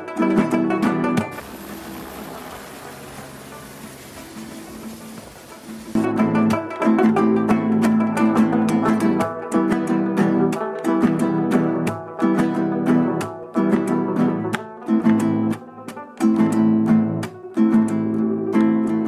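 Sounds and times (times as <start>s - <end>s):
acoustic guitar strumming: 0.0s - 18.3s.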